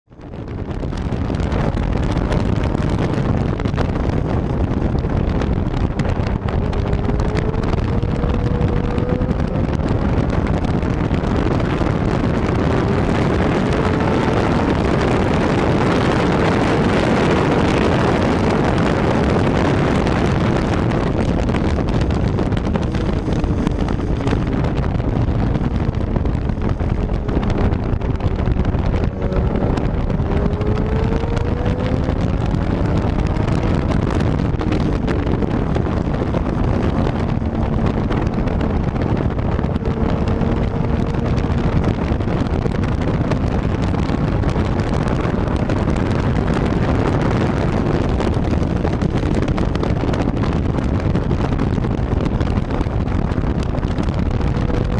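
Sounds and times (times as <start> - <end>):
wind rush on microphone: 0.0 - 54.9
motorcycle engine accelerating: 0.1 - 54.9.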